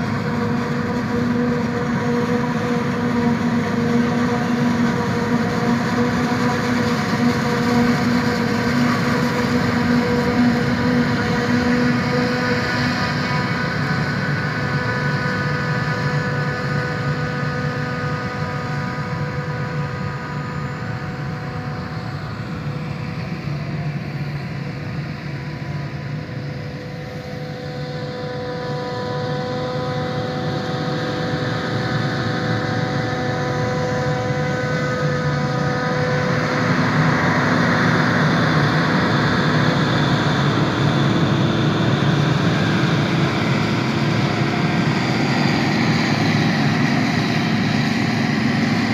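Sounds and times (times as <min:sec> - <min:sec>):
forage harvester engine whine: 0:00.0 - 0:48.9
tractor engine: 0:00.0 - 0:48.9.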